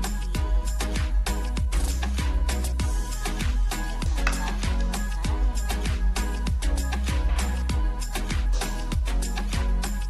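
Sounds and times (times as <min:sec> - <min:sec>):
music with deep bass kicks: 0:00.0 - 0:10.0.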